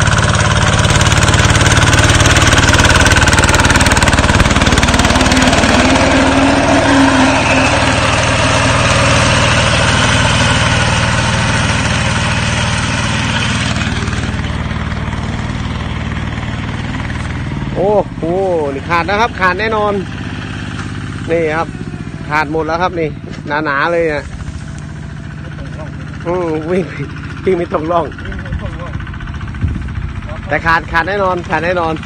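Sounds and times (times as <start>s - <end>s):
mower cutting tall grass: 0.0s - 32.0s
tractor engine running under load: 0.0s - 32.0s.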